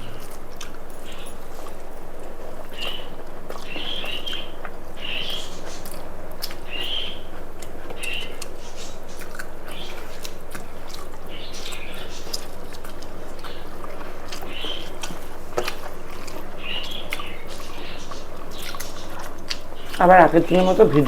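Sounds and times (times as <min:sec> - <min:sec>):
wet mouth clicks and smacks: 0:00.0 - 0:20.0
low background hum: 0:00.0 - 0:21.0
person chewing food: 0:00.0 - 0:21.0.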